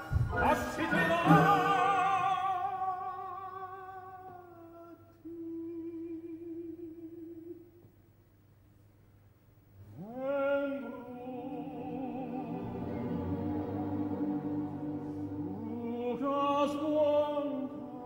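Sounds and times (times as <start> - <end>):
opera singing with vibrato: 0.0 - 7.7, 10.0 - 18.0.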